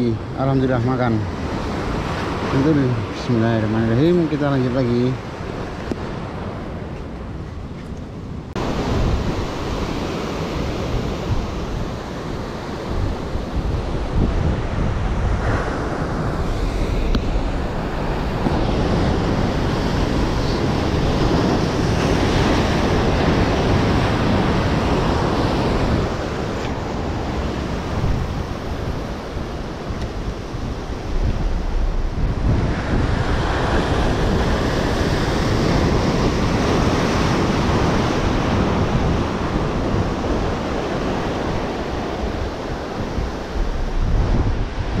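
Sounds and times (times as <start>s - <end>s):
sea waves breaking on shore: 0.0s - 45.0s
wind buffeting microphone: 0.0s - 45.0s.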